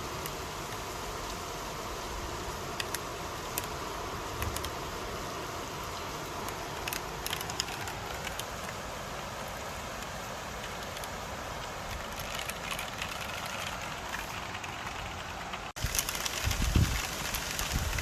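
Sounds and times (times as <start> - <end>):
sharp raindrop ticks: 0.0 - 18.0
steady rain hiss: 0.0 - 18.0.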